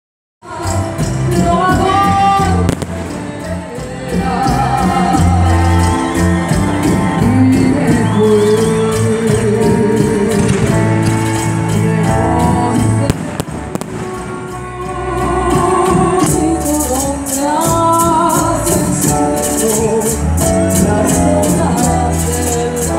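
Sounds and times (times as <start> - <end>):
song with fast beat: 0.5 - 22.9.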